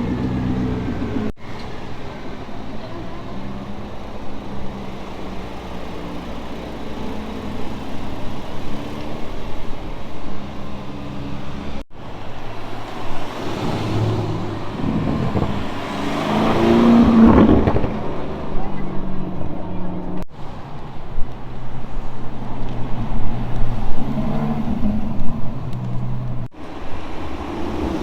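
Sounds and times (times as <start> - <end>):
car accelerating: 0.0 - 28.0
street traffic engines humming: 0.0 - 28.0.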